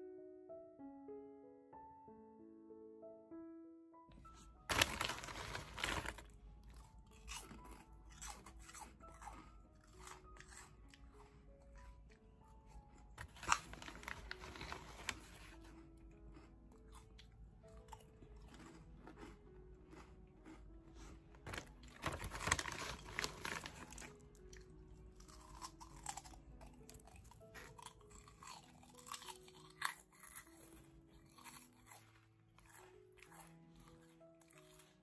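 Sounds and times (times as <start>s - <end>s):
soft background music: 0.0s - 35.0s
chips crunching and chewing: 4.3s - 35.0s.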